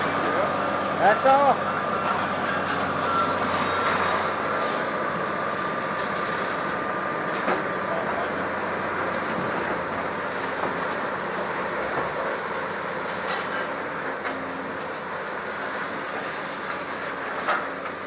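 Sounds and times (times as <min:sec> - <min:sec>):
heavy demolition machinery running: 0:00.0 - 0:18.0.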